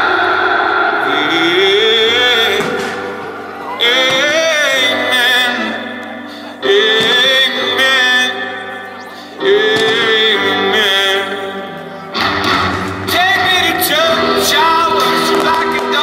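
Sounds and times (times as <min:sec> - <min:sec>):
music: 0:00.0 - 0:16.0
person singing with vibrato: 0:00.0 - 0:16.0.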